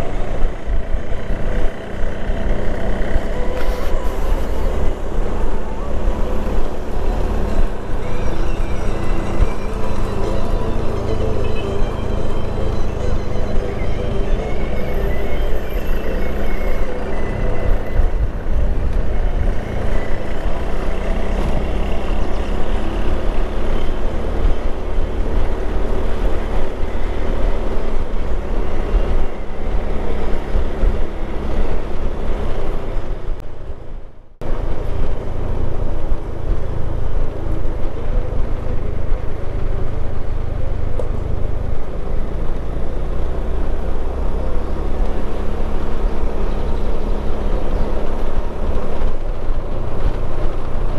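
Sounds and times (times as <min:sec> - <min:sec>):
road rumble: 0:00.0 - 0:50.9.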